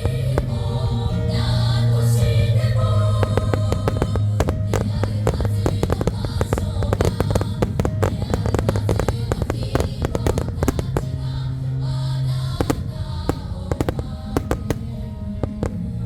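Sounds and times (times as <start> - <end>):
background music: 0.0 - 16.0
firework shells bursting: 1.8 - 16.0.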